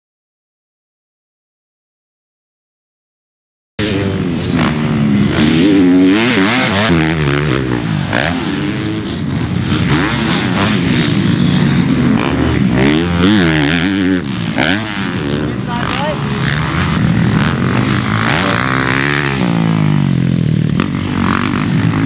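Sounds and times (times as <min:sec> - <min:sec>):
dirt bike engine revving: 0:03.8 - 0:22.0.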